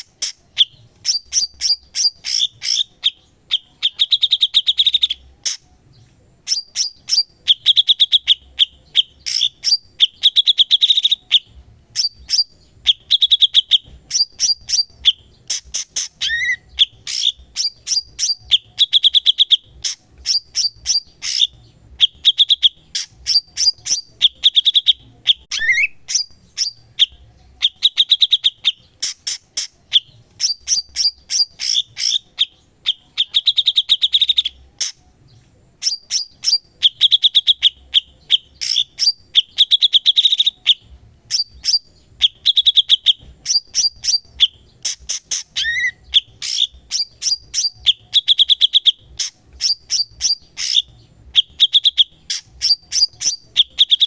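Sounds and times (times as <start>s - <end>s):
bird singing with clicks and trills: 0.0s - 54.0s.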